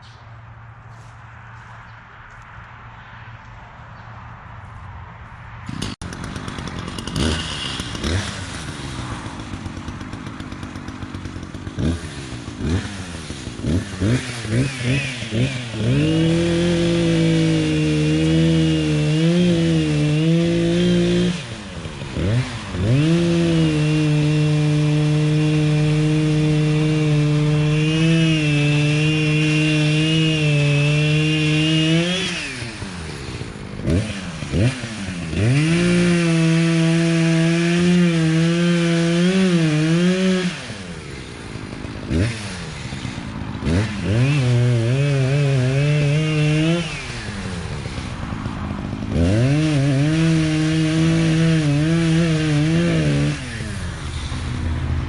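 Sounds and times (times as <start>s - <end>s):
chainsaw revving: 5.7s - 55.0s.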